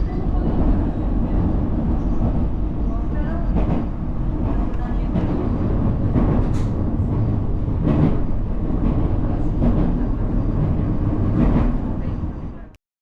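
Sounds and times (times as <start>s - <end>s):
train carriage rumble: 0.0s - 12.8s.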